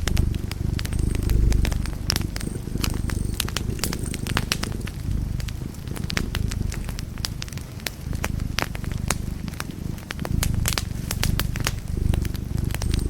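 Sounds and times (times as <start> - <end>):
low rumble: 0.0 - 13.0
wood fire crackling and popping: 0.0 - 13.0.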